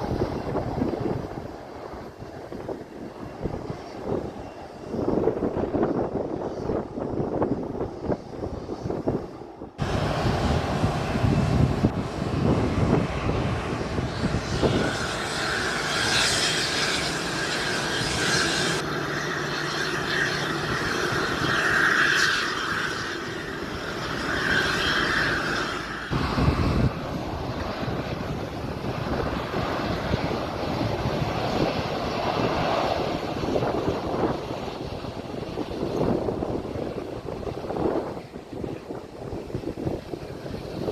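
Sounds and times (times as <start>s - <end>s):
broad rushing noise: 0.0s - 40.9s
jet engine whine: 0.0s - 40.9s.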